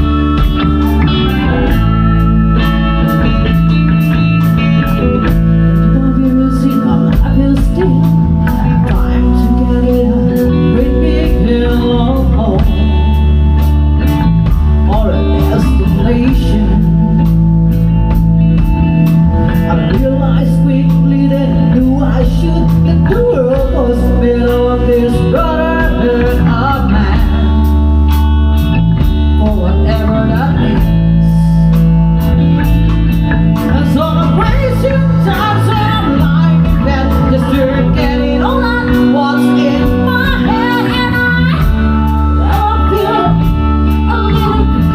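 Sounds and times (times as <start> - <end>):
person singing: 0.0 - 17.9, 19.4 - 28.2, 29.0 - 31.8, 33.6 - 44.9
bass guitar: 0.0 - 44.9
drums keeping a beat: 0.0 - 44.9
electric guitar: 0.0 - 44.9.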